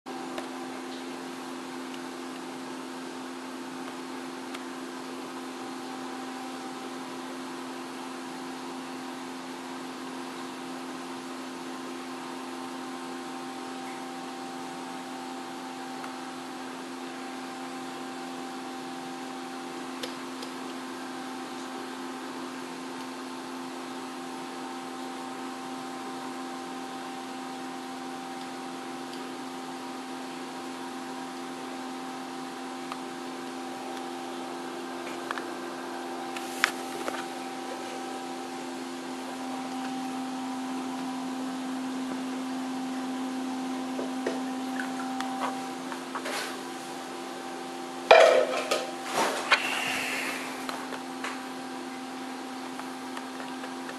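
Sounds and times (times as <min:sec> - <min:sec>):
mechanical hum with hiss: 0:00.1 - 0:53.9.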